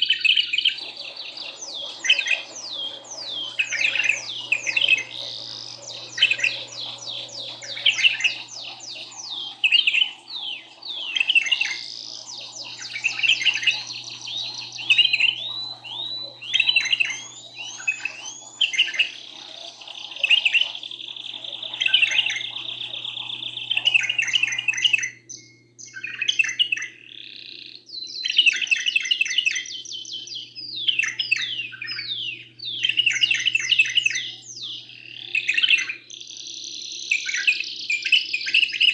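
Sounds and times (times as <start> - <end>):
birds singing fast trills: 0.0 - 38.9.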